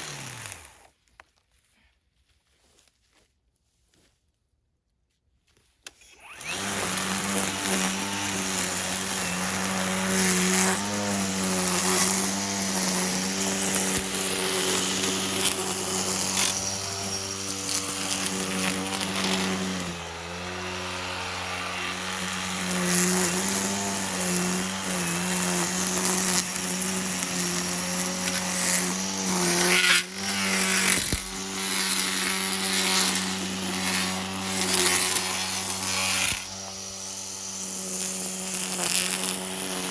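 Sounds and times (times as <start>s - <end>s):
small gasoline engine running: 0.0s - 0.8s, 6.2s - 39.9s.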